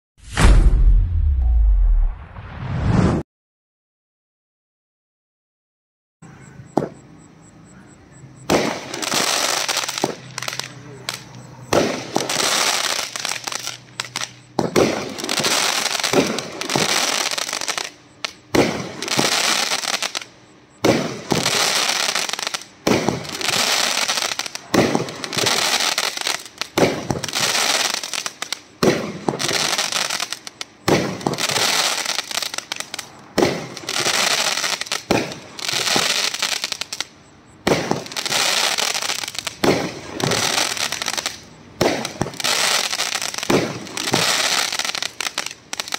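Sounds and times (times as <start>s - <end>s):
fireworks popping and crackling: 6.8s - 7.0s, 8.5s - 45.9s.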